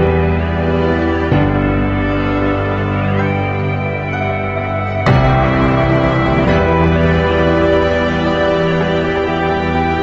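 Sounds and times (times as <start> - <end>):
calm music of sustained chords: 0.0 - 10.0.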